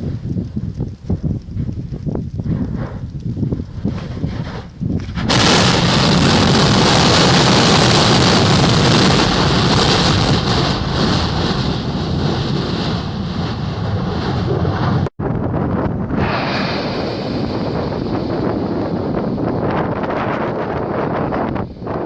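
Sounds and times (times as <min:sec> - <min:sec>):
volcano eruption roar: 0:00.0 - 0:22.0.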